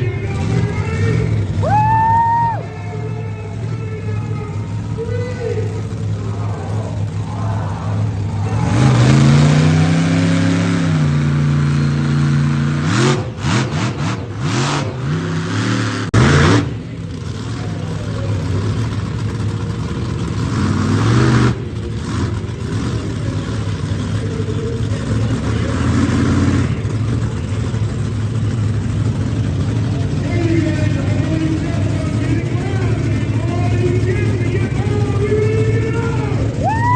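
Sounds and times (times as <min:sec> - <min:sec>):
truck engine revving hard: 0:00.0 - 0:02.5, 0:03.5 - 0:36.9.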